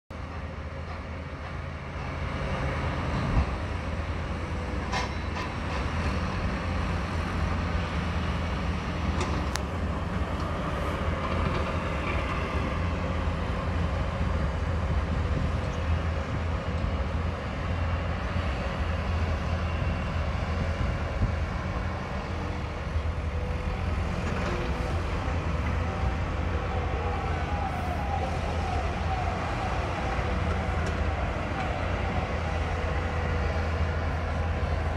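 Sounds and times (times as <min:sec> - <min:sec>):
heavy machinery engine rumble: 0:00.2 - 0:34.9.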